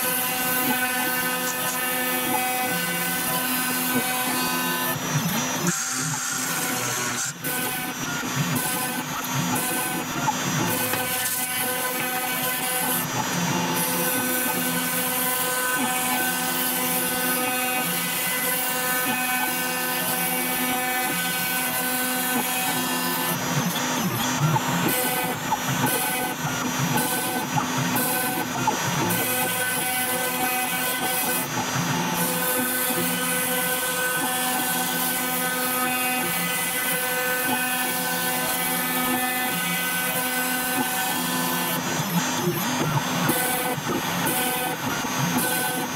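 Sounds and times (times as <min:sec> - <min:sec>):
router spindle whine: 0:00.0 - 0:45.9.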